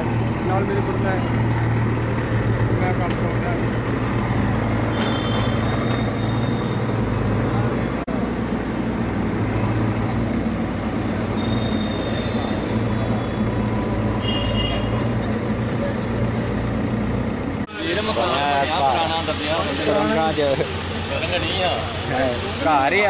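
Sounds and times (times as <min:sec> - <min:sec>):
engine running with low hum: 0:00.0 - 0:23.0.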